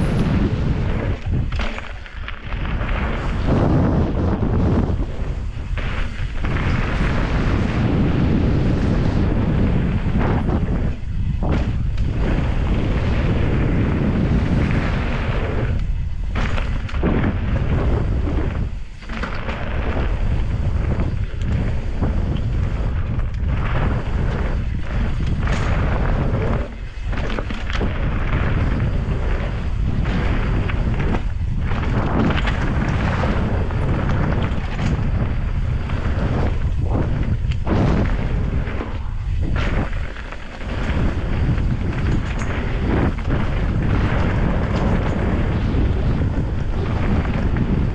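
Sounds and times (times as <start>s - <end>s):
bike knocking and rattling: 0.0s - 47.9s
wind buffeting microphone: 0.0s - 47.9s.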